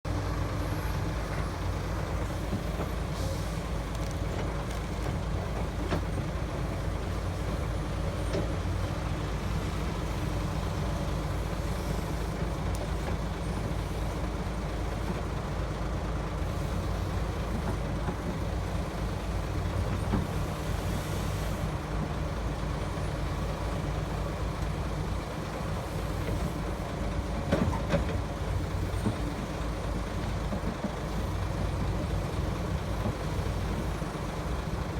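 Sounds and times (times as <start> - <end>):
heavy diesel engines droning: 0.0 - 34.9.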